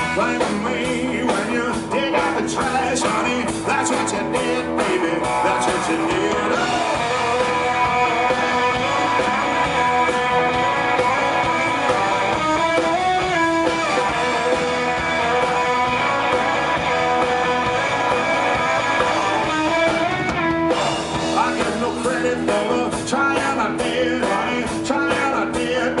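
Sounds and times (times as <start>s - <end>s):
lead electric guitar: 0.0s - 26.0s
live rock band playing: 0.0s - 26.0s.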